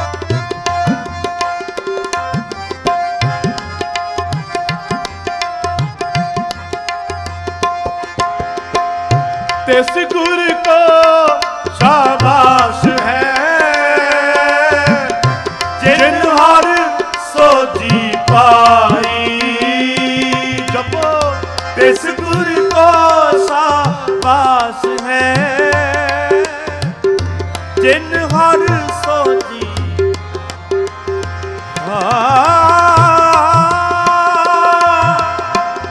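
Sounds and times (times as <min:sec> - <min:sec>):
tabla drumming: 0:00.0 - 0:35.9.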